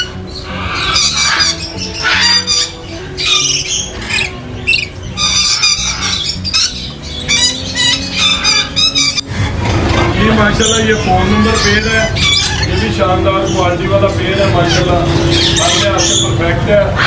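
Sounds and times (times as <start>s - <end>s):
parrots squawking: 0.0s - 17.0s.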